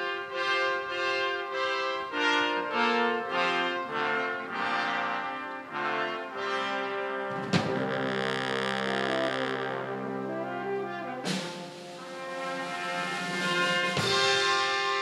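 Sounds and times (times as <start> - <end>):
brass ensemble playing chords: 0.0 - 15.0.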